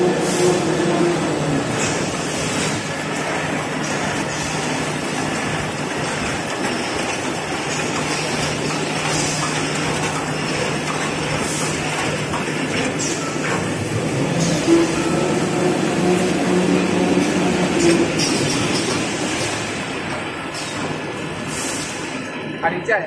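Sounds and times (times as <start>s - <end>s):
machine mechanical din: 0.0s - 22.5s.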